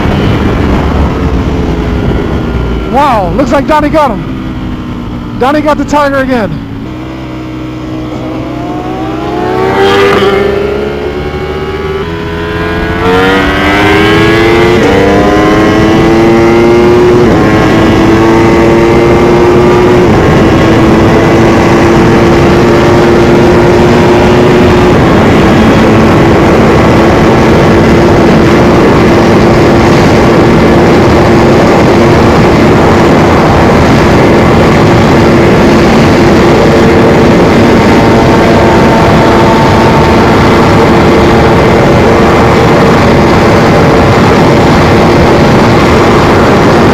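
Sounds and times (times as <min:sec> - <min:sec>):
motorcycle accelerating through gears: 0:00.0 - 0:46.9
wind noise: 0:00.0 - 0:46.9.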